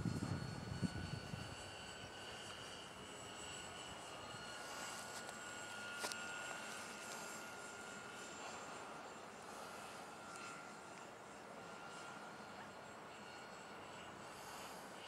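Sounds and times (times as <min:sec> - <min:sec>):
model airplane high whine: 0:00.0 - 0:15.0.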